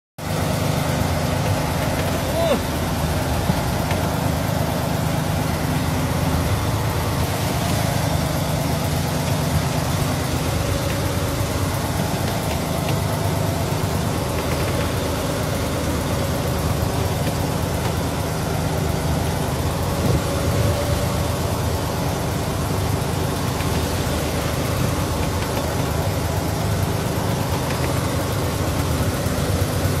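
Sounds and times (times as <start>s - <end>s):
boat engine droning: 0.2s - 30.0s.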